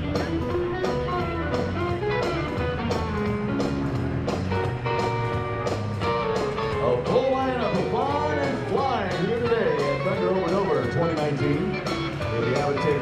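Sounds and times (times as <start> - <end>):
guitar music over public address: 0.0 - 13.0.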